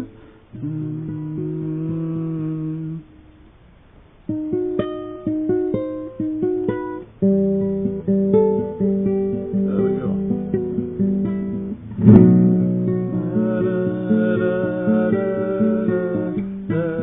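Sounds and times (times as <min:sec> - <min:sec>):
acoustic guitar playing: 0:00.0 - 0:03.5, 0:04.2 - 0:17.0.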